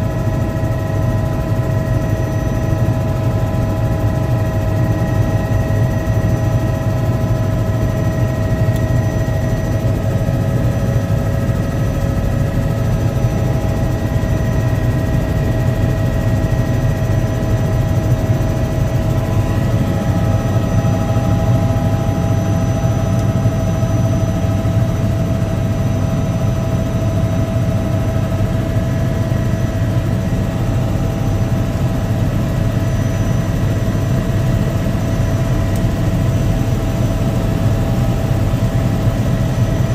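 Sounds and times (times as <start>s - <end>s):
helicopter drone and whine: 0.0s - 39.9s.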